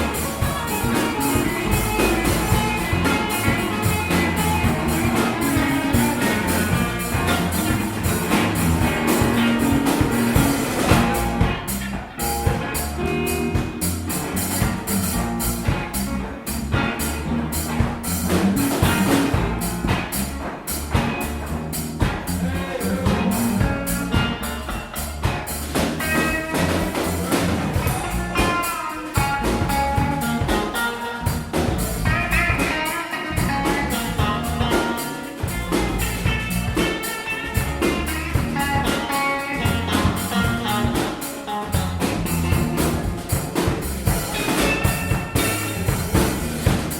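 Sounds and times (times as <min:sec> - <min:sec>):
drum kit beat: 0:00.0 - 0:46.9.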